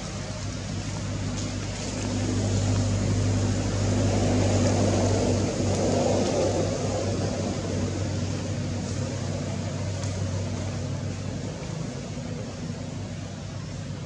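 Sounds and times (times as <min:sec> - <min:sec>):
motor engine humming: 0:00.0 - 0:14.0.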